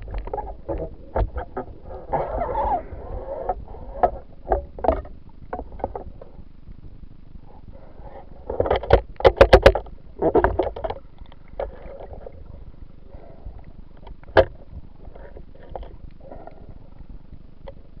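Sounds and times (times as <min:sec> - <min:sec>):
underwater water noise: 0:00.0 - 0:18.0.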